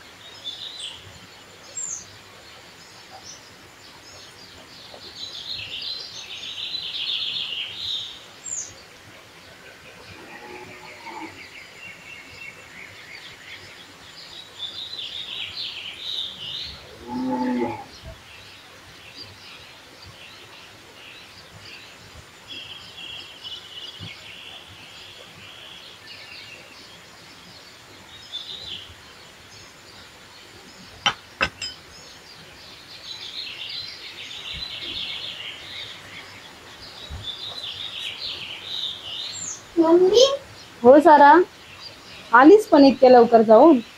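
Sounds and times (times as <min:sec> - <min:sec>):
birds chirping and singing: 0:00.2 - 0:43.9.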